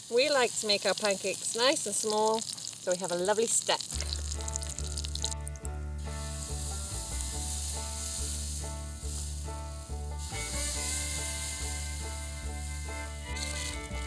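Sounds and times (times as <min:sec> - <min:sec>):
batter sizzling in butter: 0:00.0 - 0:14.0.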